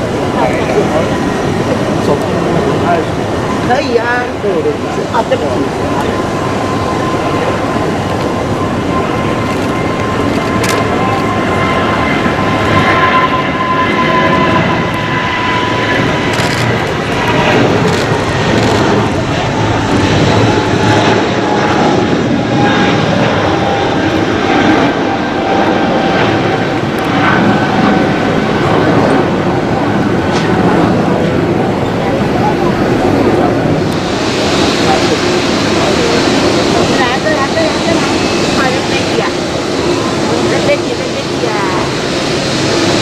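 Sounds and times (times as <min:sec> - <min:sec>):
jet airliner engines whining: 0:00.0 - 0:43.0.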